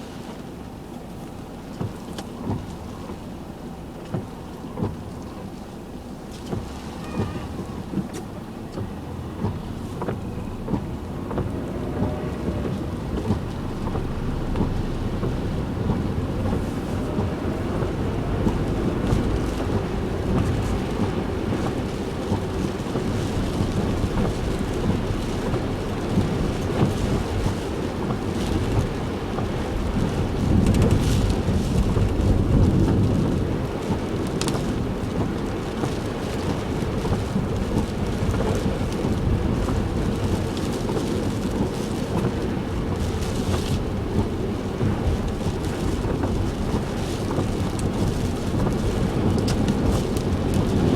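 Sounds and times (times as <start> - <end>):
car rumbling on road: 0.0 - 50.9
heavy rain pelting a car: 0.0 - 50.9.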